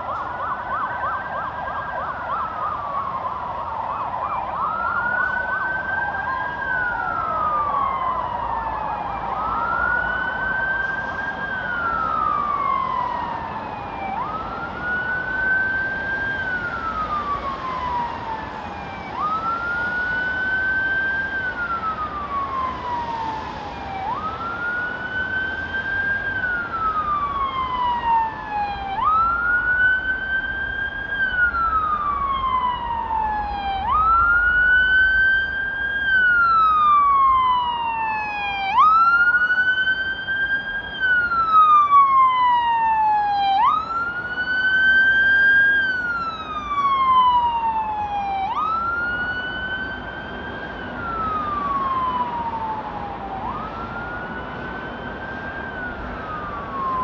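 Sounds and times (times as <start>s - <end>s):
emergency vehicle siren wailing: 0.0s - 57.0s
road traffic hum: 0.0s - 57.0s.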